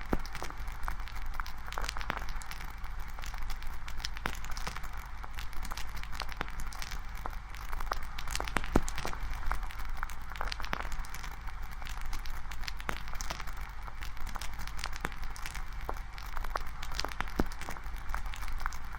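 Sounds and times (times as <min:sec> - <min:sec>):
campfire crackling and popping: 0:00.0 - 0:18.9.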